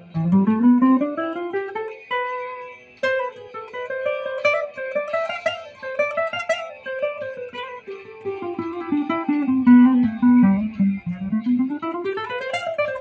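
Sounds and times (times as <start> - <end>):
classical guitar fingerstyle: 0.0 - 13.0.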